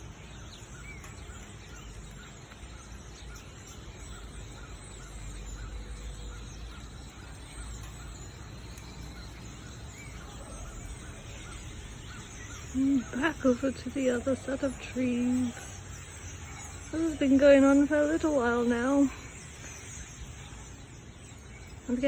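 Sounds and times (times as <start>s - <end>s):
flock of small birds chattering: 0.0s - 22.0s.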